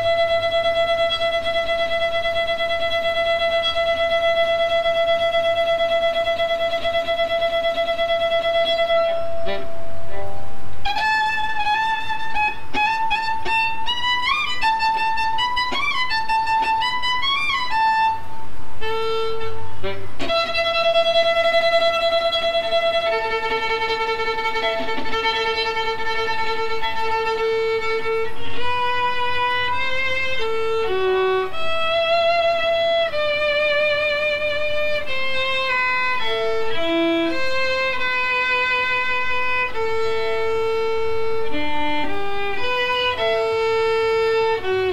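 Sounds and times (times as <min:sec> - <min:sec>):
solo violin melody: 0:00.0 - 0:44.9.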